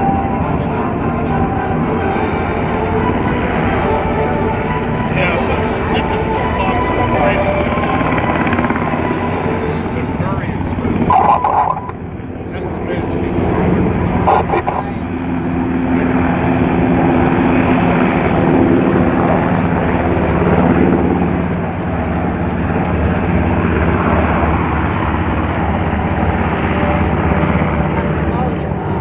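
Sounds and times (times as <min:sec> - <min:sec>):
military aircraft engines running: 0:00.0 - 0:29.0.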